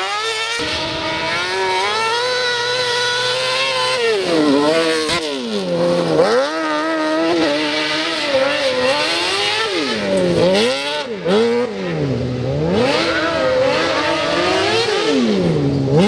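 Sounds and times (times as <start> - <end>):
motorcycle engine revving hard: 0.0 - 16.0.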